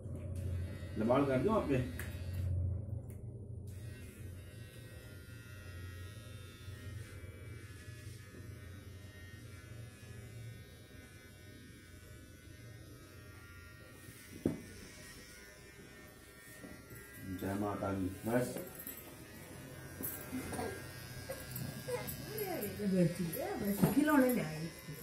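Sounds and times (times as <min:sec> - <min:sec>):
electric hair trimmer buzzing: 0:00.4 - 0:02.5, 0:03.7 - 0:25.0.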